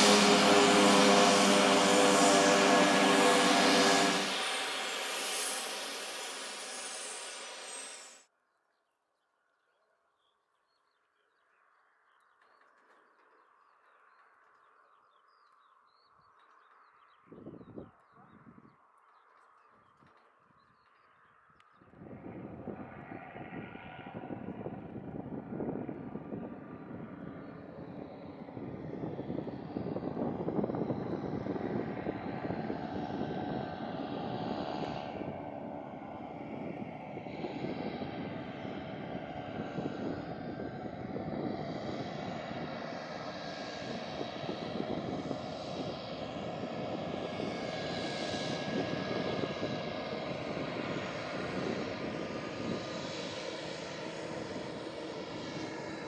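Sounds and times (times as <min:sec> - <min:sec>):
turboprop aircraft taxiing: 0:00.0 - 0:08.2, 0:12.4 - 0:56.0.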